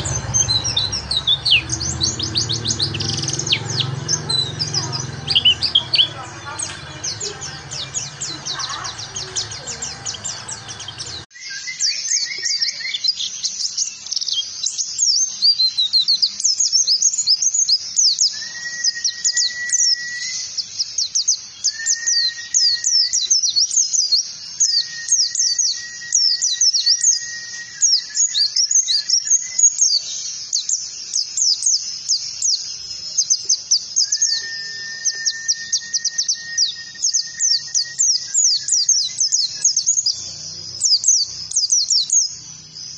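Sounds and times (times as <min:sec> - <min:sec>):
high-pitched bird twittering: 0:00.0 - 0:42.9
long whistled bird notes: 0:00.0 - 0:42.9.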